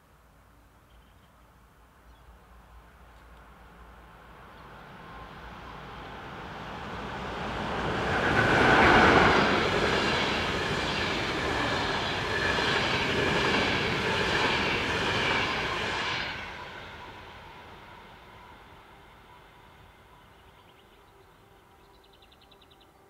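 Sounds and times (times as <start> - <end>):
electric locomotive passing: 2.7 - 23.0.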